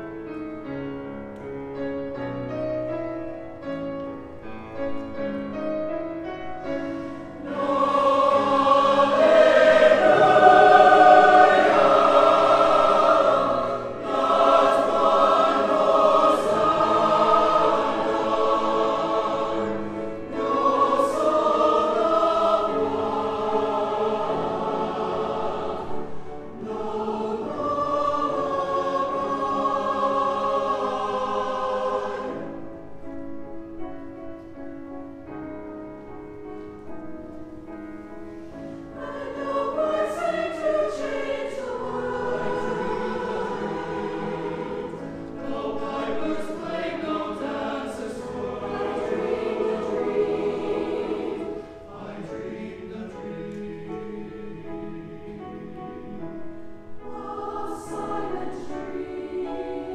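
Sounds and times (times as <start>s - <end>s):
mixed choir singing chords: 4.9s - 33.0s, 38.2s - 59.9s.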